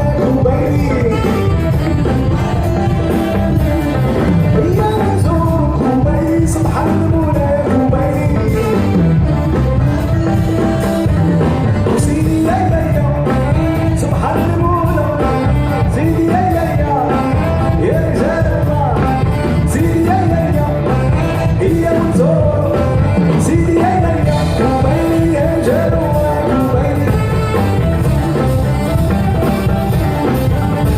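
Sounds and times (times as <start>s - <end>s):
music with singing over pa: 0.0s - 30.9s.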